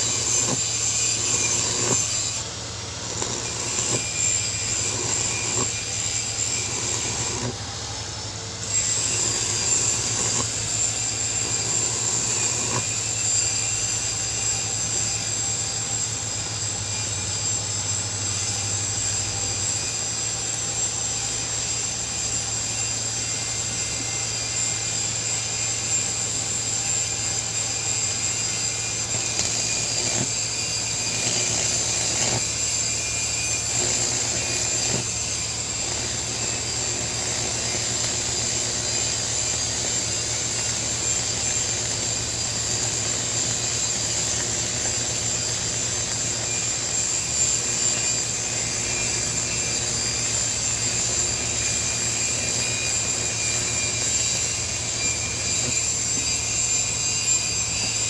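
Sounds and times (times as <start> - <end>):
workshop machine hissing whine: 0.0 - 58.0.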